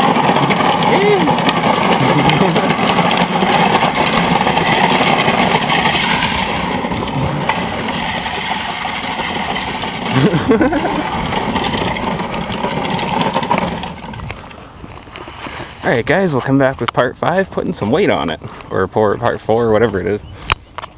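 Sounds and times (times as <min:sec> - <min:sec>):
wheels rolling on asphalt: 0:00.0 - 0:20.9.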